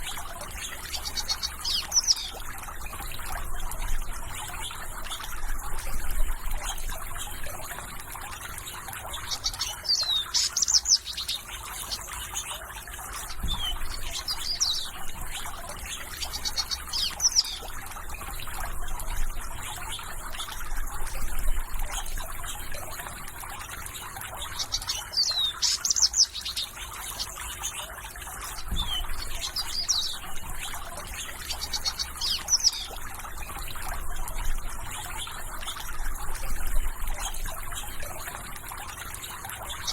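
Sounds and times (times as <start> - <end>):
songbirds chirping: 0.0 - 39.9
water trickling: 0.0 - 39.9.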